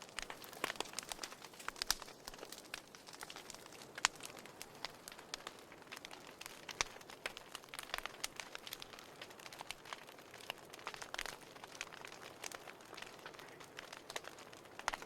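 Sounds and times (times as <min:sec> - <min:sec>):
firewood popping and snapping: 0:00.0 - 0:15.0
wood fire hissing: 0:00.0 - 0:15.0.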